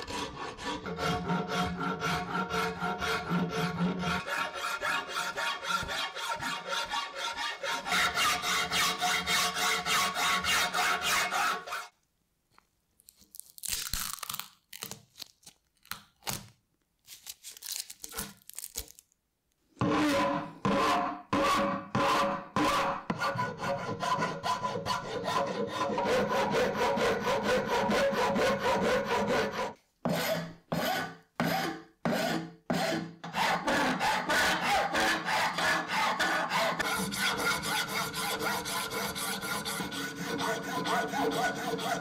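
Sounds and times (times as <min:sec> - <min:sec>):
hand file rasping on wood: 0:00.0 - 0:11.9, 0:20.1 - 0:42.0.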